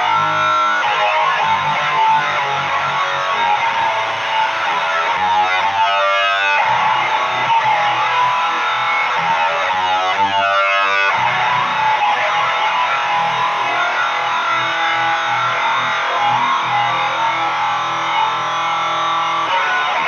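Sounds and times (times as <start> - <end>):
distorted electric guitar riffing: 0.0 - 20.0.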